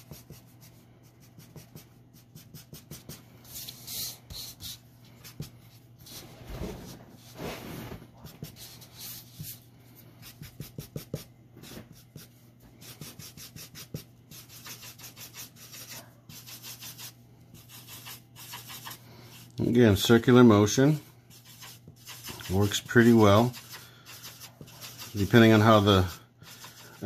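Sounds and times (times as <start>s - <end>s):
marker rubbing on paper: 0.0s - 6.2s, 8.2s - 9.6s, 10.2s - 19.4s, 21.3s - 27.0s
faint steady hum: 0.0s - 27.0s.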